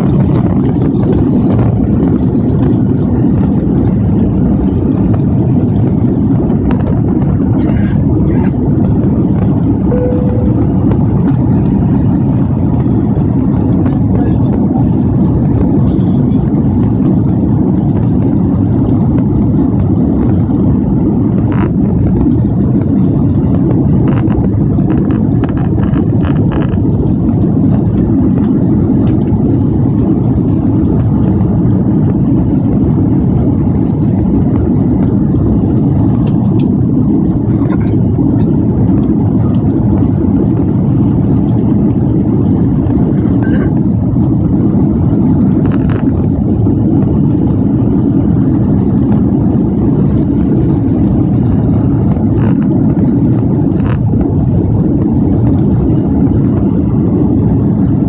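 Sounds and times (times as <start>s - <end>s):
aircraft cabin engine rumble: 0.0s - 58.0s.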